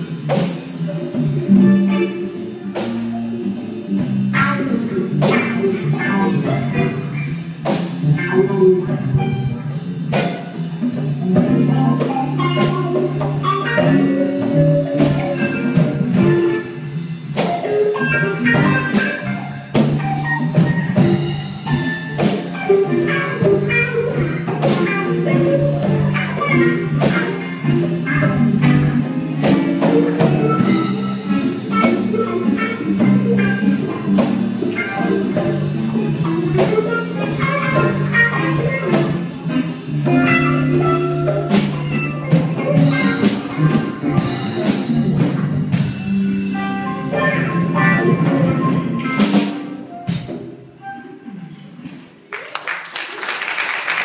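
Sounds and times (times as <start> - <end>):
jazz drum kit beat: 0.0 - 51.3
electric guitar lines: 0.0 - 52.1.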